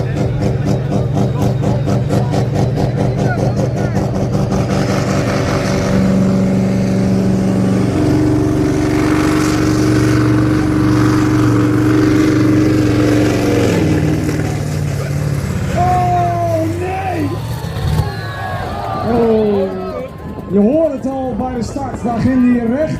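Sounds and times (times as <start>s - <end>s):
diesel engine under load: 0.0s - 22.9s.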